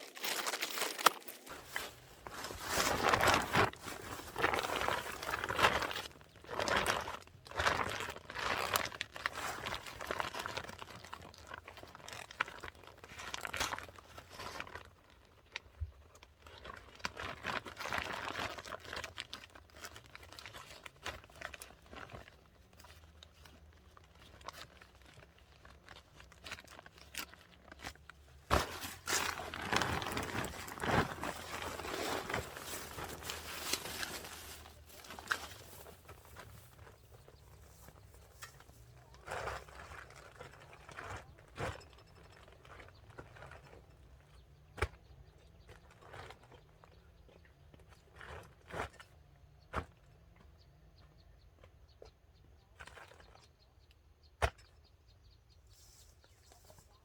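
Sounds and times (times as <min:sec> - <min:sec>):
dry corn husks crackling and tearing: 0:00.0 - 0:54.8.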